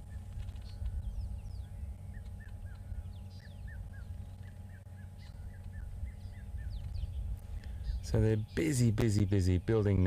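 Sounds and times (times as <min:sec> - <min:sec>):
birds chirping: 0:00.0 - 0:10.0
steady low rumble: 0:00.0 - 0:10.0.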